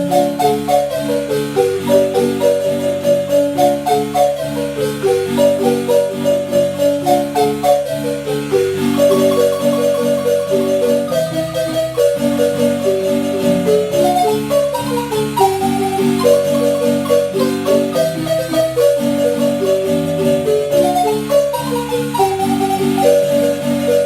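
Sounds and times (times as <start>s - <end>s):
marimba playing lively melody: 0.0s - 24.0s.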